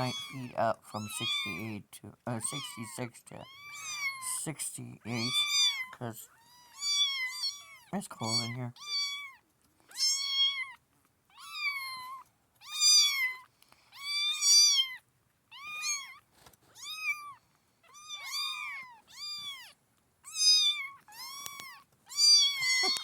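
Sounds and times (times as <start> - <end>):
kittens meowing: 0.0 - 4.4, 5.1 - 16.2, 16.8 - 23.0.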